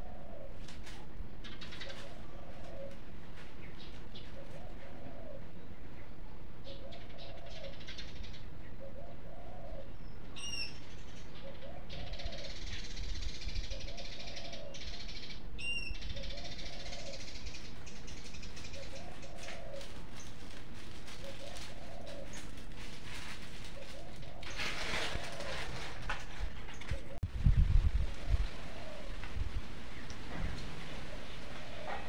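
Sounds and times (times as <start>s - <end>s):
dove cooing: 0.0s - 5.7s, 6.6s - 10.7s, 11.3s - 12.9s, 13.6s - 27.2s, 28.0s - 32.0s
steady background noise: 0.0s - 32.0s.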